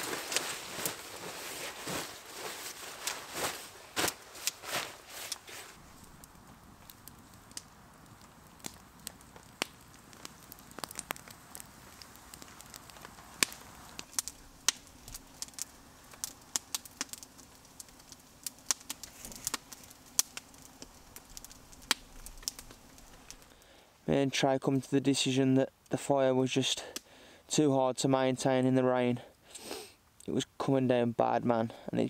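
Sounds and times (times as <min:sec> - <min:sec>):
campfire crackling and popping: 0:00.0 - 0:27.6.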